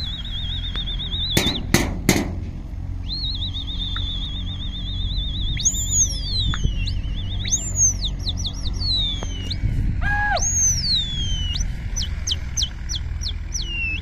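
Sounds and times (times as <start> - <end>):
birds whistling and chirping: 0.0 - 2.0, 2.8 - 14.0
steady low rumble: 0.0 - 14.0.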